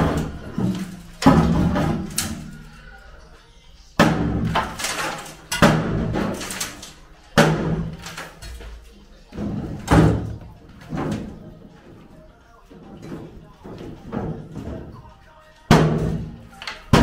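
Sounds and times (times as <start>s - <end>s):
boards clattering and rattling: 0.0s - 2.7s, 4.0s - 17.0s.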